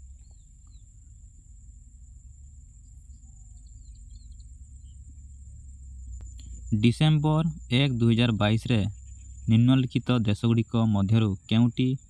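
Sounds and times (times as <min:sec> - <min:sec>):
high-pitched whine: 0:00.0 - 0:12.0
steady low hum: 0:00.0 - 0:12.0.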